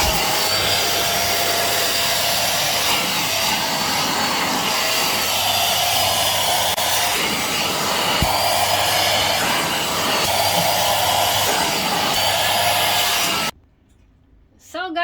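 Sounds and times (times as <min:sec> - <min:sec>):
vacuum cleaner motor whine: 0:00.0 - 0:13.6.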